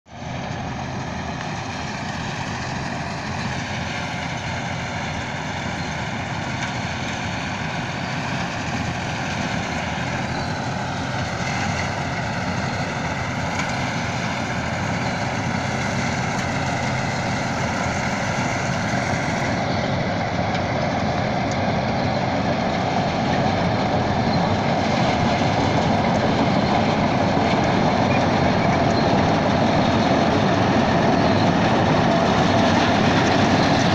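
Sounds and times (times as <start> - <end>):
combine harvester drone: 0.1 - 33.9.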